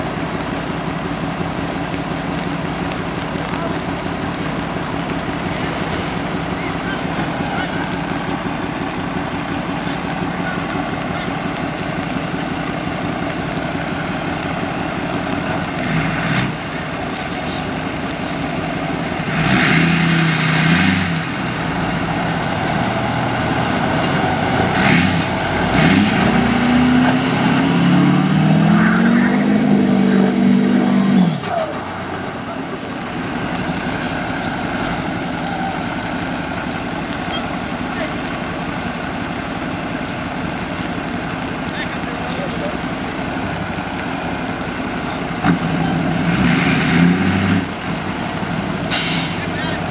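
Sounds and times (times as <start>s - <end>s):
diesel engine idling and revving: 0.0s - 49.9s.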